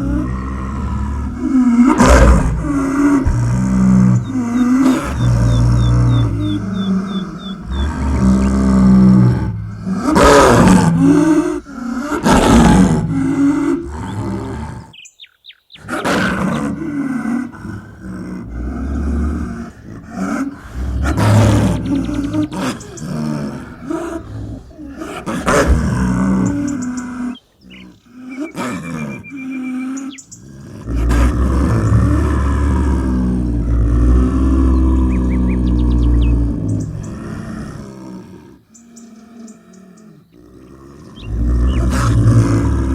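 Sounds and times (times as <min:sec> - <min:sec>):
snow leopard calling: 0:00.0 - 0:37.3.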